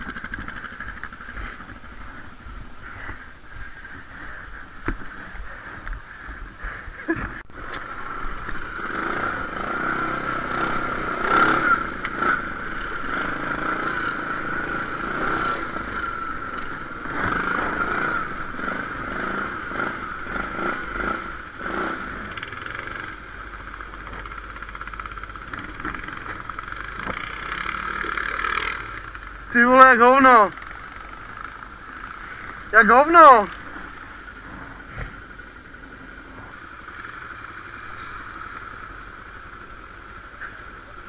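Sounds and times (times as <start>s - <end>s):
atv engine whining: 0.0s - 41.0s.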